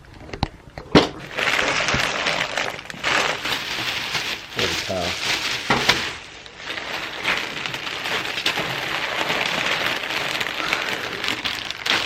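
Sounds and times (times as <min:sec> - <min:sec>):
plastic bags crinkling: 0:01.2 - 0:12.0.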